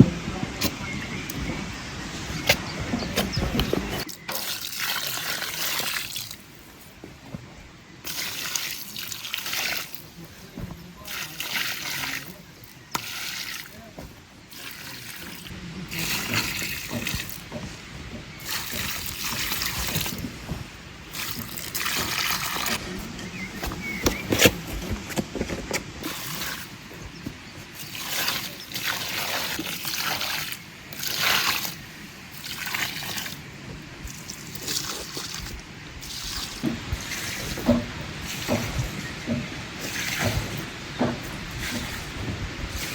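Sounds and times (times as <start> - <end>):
water trickling and splashing: 0.0 - 24.8, 25.4 - 42.9.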